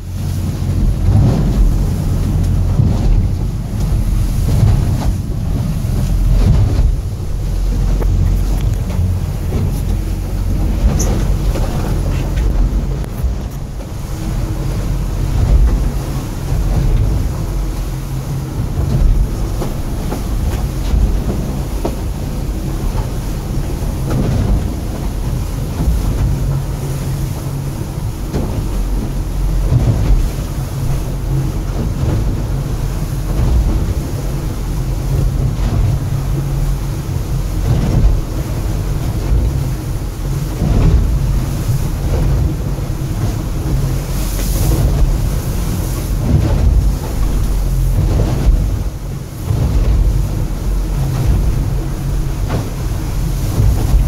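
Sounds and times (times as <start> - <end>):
hull slapping over waves: 0.0 - 54.0
outboard engine running: 0.0 - 54.0.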